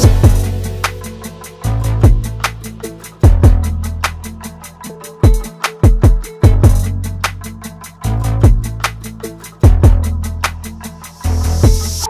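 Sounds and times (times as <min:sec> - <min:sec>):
hip-hop beat: 0:00.0 - 0:12.0.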